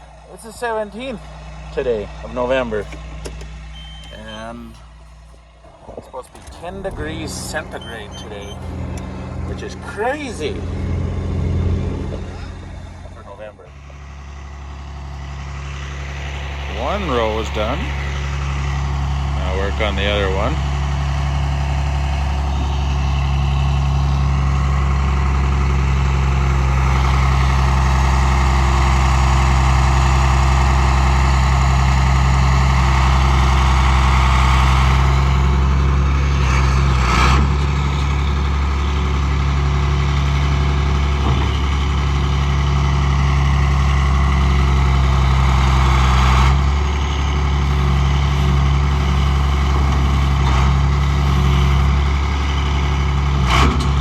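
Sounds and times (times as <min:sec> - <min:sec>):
farm machine engine running: 0:00.0 - 0:54.0.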